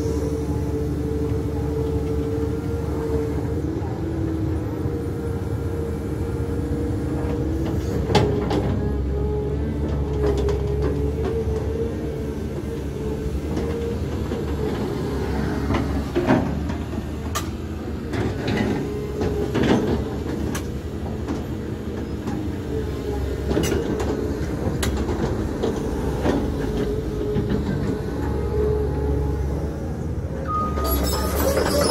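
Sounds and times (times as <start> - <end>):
excavator diesel engine: 0.0 - 31.9.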